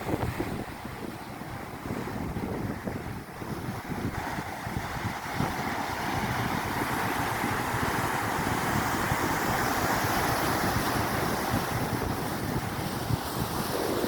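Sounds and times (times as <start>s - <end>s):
sea surf washing on shore: 0.0s - 14.0s
wind buffeting microphone: 0.0s - 14.0s.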